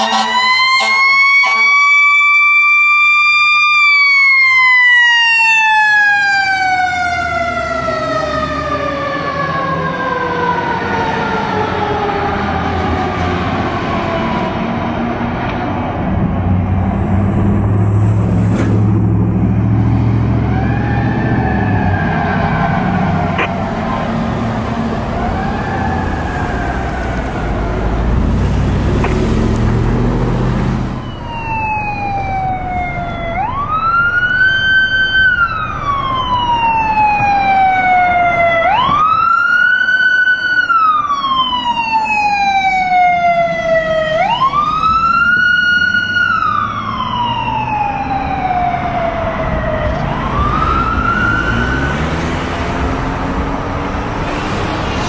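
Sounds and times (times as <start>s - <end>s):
faint wailing siren: 0.0s - 15.3s, 16.2s - 55.0s
truck engine rumble: 5.6s - 39.6s, 42.7s - 55.0s.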